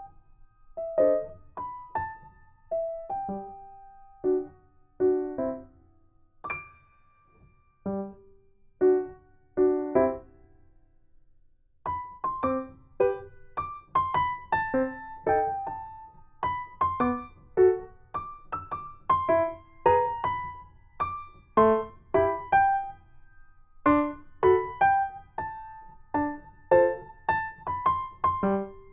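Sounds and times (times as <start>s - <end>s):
piano melody: 0.0s - 5.8s, 6.4s - 10.6s, 11.8s - 28.9s.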